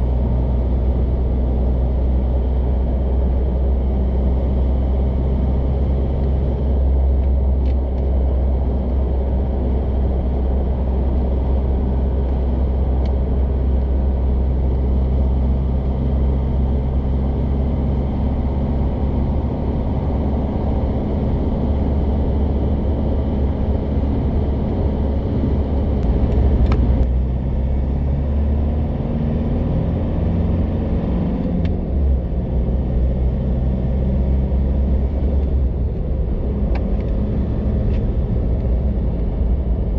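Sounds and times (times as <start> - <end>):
engine drone: 0.0 - 39.9
tyre and wind rumble in car: 0.0 - 39.9.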